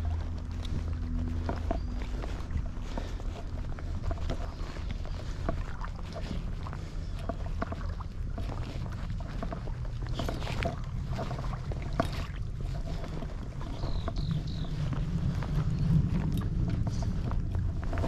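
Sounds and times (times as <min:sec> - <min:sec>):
creek water splashing: 0:00.0 - 0:18.0
low rumble: 0:00.0 - 0:18.0.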